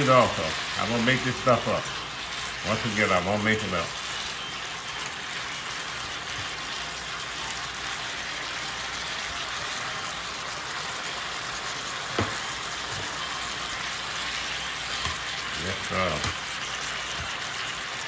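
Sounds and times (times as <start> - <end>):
food sizzling in a skillet: 0.0 - 18.0.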